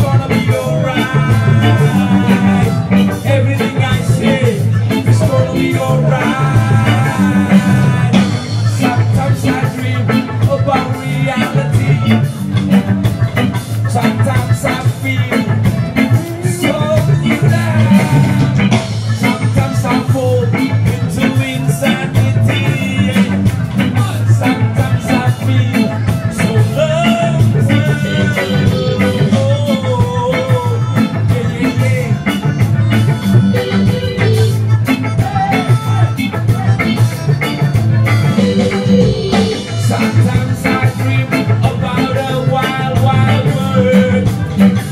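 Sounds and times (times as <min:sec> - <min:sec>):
live reggae band playing: 0:00.0 - 0:44.9
person singing: 0:00.0 - 0:44.9.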